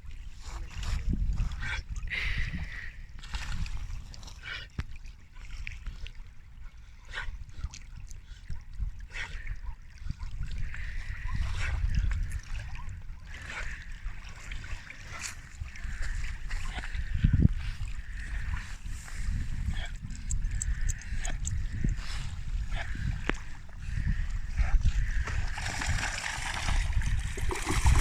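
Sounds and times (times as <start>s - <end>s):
water splashing around a boat: 0.0s - 28.0s.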